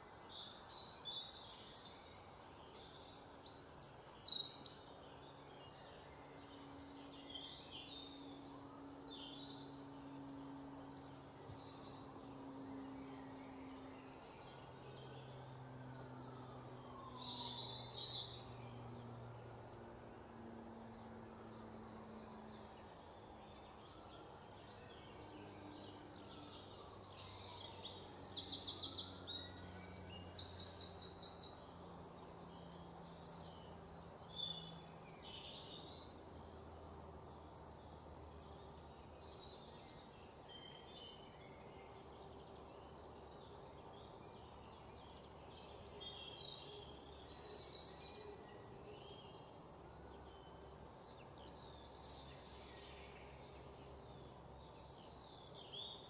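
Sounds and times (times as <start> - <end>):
faint low hum: 0.0 - 56.0.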